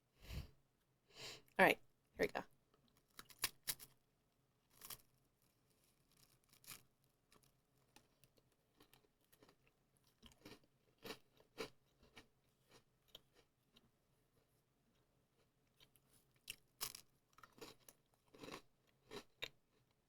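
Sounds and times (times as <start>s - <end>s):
crunchy biscuit chewing: 2.7s - 4.0s, 4.7s - 20.0s.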